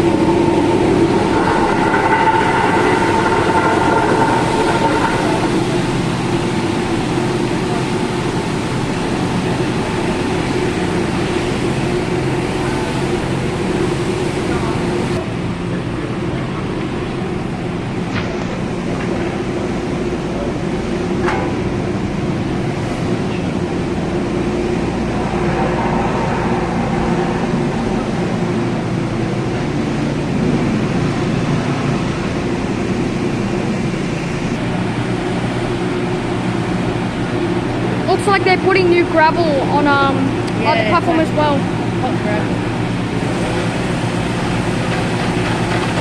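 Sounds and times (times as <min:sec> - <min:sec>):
diesel machinery engine drone: 0:00.0 - 0:46.0.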